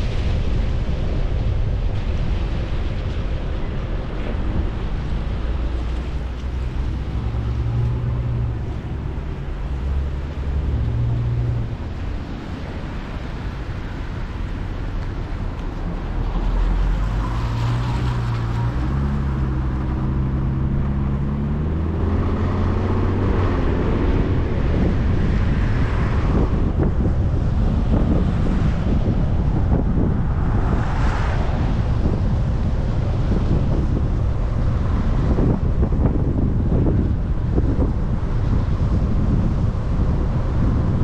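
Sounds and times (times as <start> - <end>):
vehicle road and engine rumble: 0.0 - 41.0.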